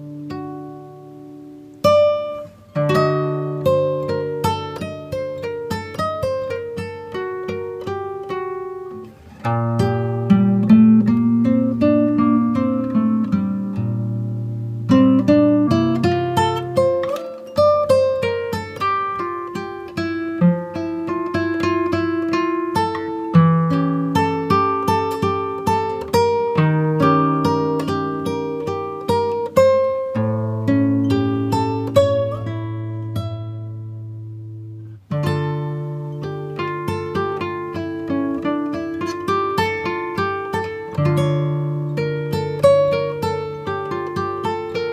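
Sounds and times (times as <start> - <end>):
plucked acoustic guitar melody: 0.0 - 44.9.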